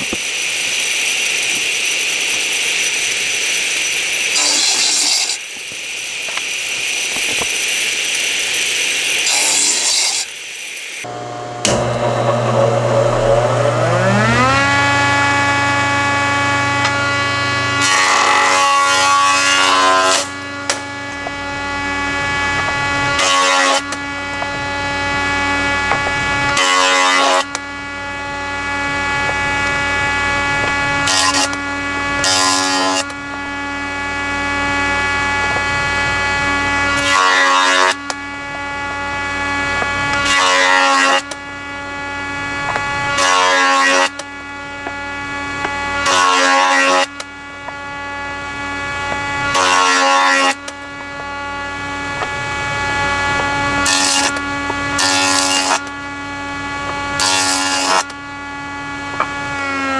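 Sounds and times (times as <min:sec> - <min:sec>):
machine cutting wood: 0:11.0 - 0:59.9
woodworking machine motor: 0:11.0 - 0:59.9.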